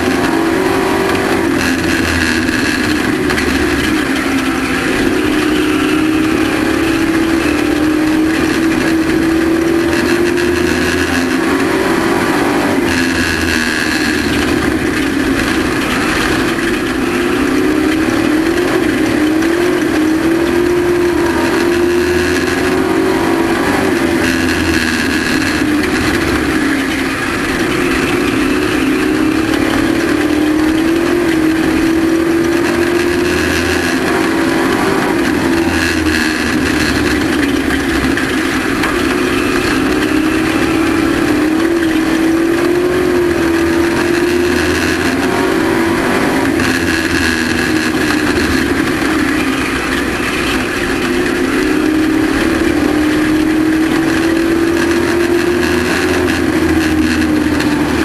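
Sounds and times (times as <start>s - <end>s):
race truck engine running hard: 0.0s - 58.0s.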